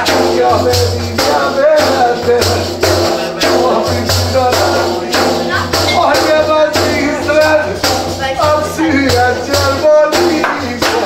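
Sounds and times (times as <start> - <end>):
frame drum beating with rattle: 0.0 - 11.0
man singing: 0.0 - 11.0.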